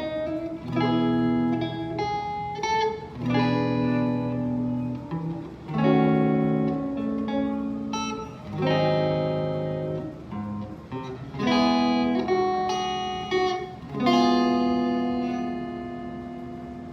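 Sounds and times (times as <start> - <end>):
clean electric guitar chords: 0.0 - 16.9.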